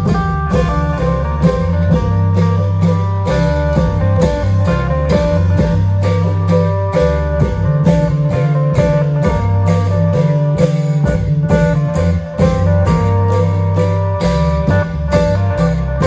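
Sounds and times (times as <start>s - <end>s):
drum and cymbal strokes: 0.0s - 16.0s
plucked-string melody: 0.0s - 16.0s
sustained bass: 0.0s - 16.0s.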